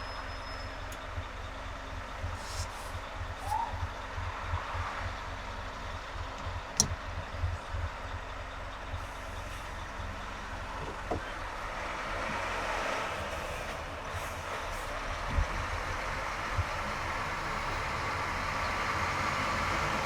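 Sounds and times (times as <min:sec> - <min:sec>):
highway traffic rush: 0:00.0 - 0:20.0
low road rumble: 0:00.0 - 0:20.0.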